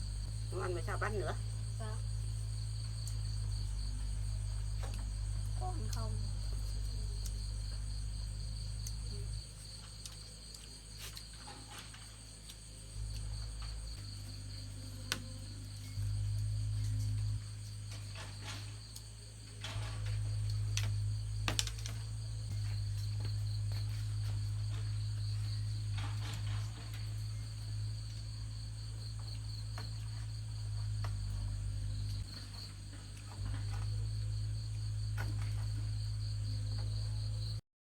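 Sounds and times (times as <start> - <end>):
low hum: 0.0 - 10.0, 12.8 - 37.6
crickets chirring: 0.0 - 37.6.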